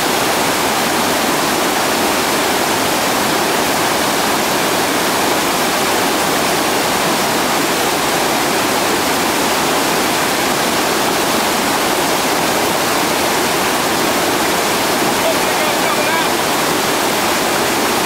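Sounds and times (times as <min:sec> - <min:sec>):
river rapids roaring: 0:00.0 - 0:18.0.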